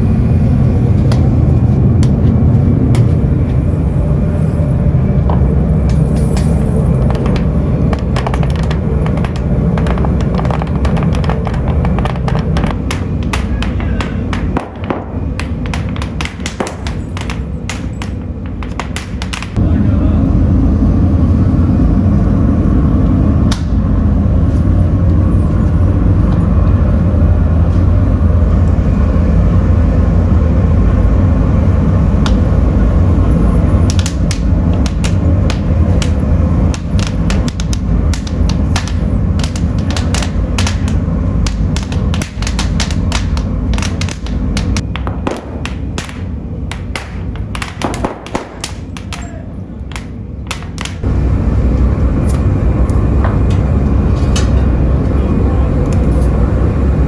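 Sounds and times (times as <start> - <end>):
factory machinery low rumble: 0.0 - 57.0.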